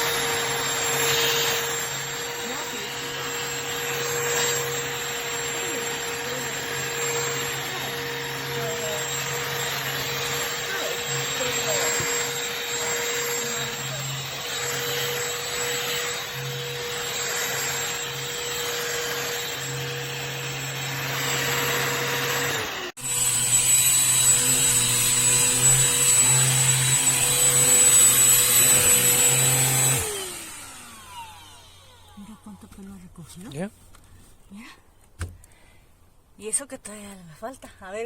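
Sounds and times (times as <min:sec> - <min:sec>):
handheld vacuum motor whine: 0:00.0 - 0:32.8.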